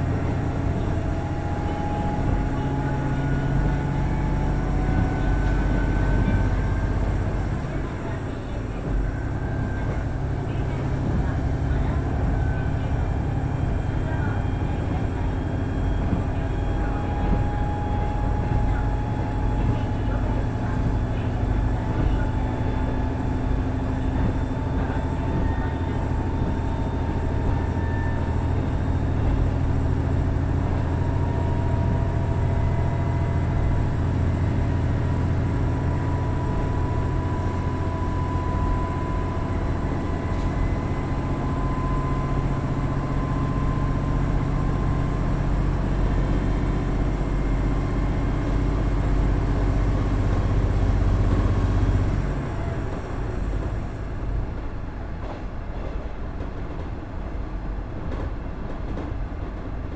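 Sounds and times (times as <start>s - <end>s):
diesel railcar engine hum: 0.0s - 59.9s.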